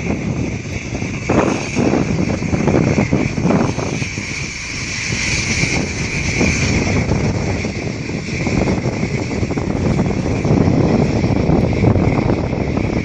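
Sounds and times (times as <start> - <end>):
high-pitched whine: 0.0 - 13.0
wind buffeting microphone: 0.0 - 13.0.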